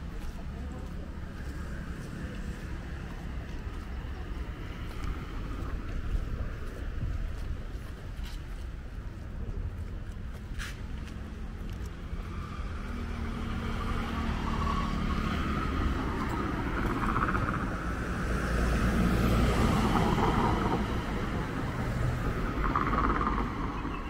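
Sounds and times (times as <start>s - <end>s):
street traffic passing: 0.0s - 24.0s.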